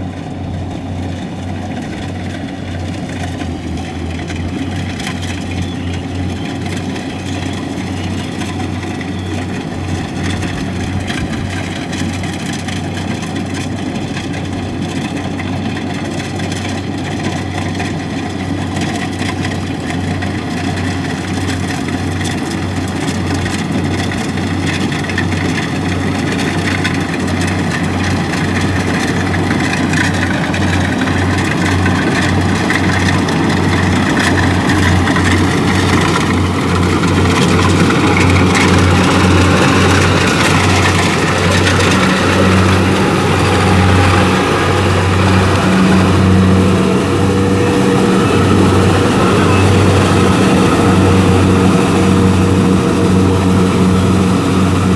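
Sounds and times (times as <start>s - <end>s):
combine harvester diesel engine: 0.0s - 54.9s.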